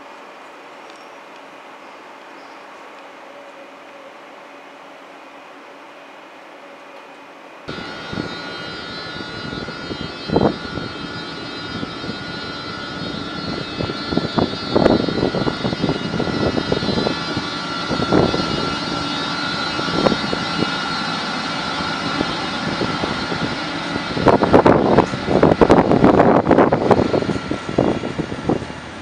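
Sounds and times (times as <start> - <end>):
electric locomotive whine: 0.0 - 29.0.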